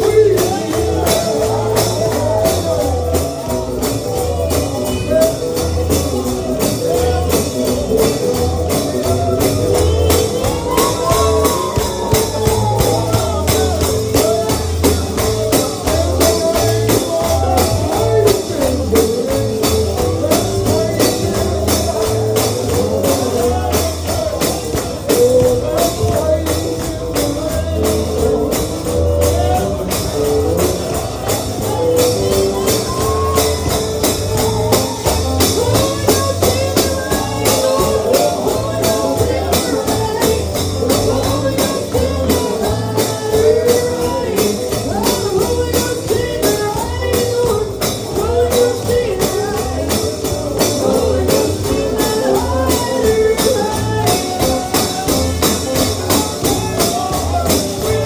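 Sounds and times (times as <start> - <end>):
bass: 0.0 - 58.0
guitar: 0.0 - 58.0
person singing: 0.0 - 58.0
tambourine beat: 0.0 - 58.0.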